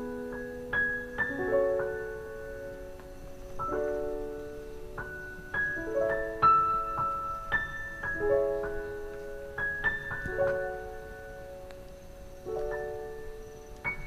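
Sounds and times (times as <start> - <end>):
slow piano-like melody: 0.0 - 14.0.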